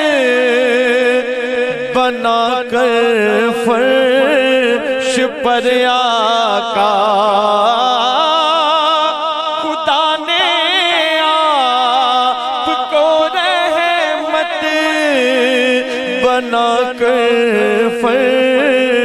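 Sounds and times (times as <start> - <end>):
man singing: 0.0 - 19.0.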